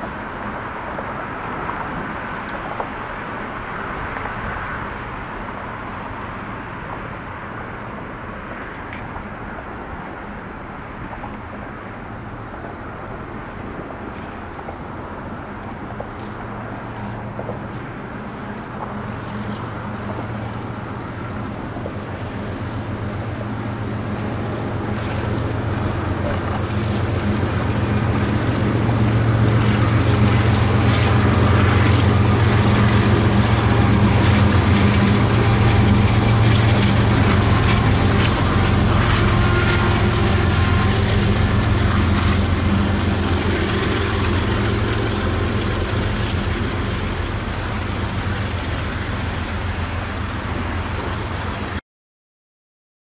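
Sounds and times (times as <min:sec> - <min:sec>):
diesel locomotive drone: 0:00.0 - 0:51.8
freight train cars rolling past: 0:00.0 - 0:51.8.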